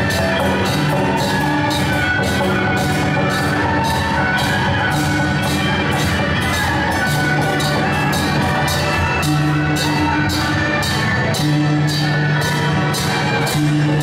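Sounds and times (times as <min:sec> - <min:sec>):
drums and cymbals striking: 0:00.0 - 0:14.0.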